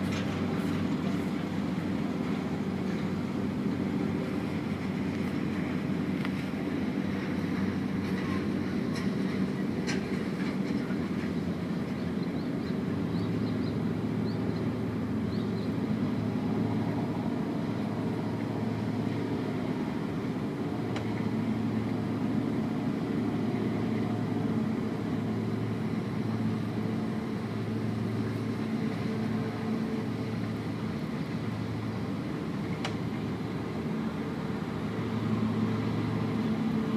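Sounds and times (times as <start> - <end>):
low mechanical engine rumble: 0.0 - 36.9.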